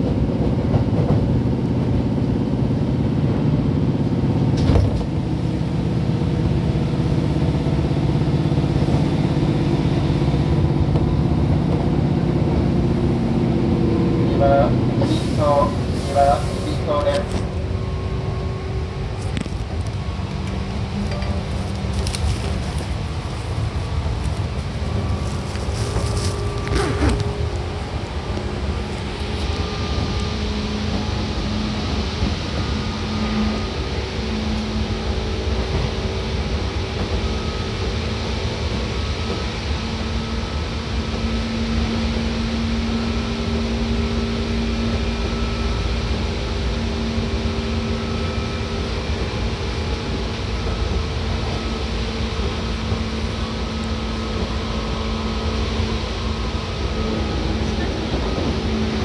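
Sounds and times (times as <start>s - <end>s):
train wheels rumbling: 0.0s - 59.0s
train whining tones: 5.1s - 59.0s.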